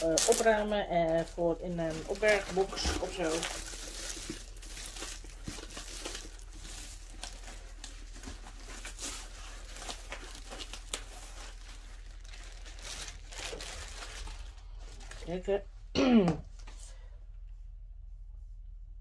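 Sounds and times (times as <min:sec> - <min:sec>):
packaging crinkling and rustling: 0:00.0 - 0:15.6.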